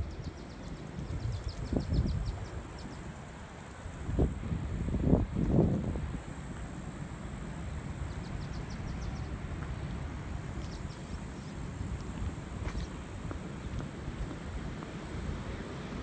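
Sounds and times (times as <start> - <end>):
high hiss: 0.0 - 16.0
wind rumbling on microphone: 0.0 - 16.0.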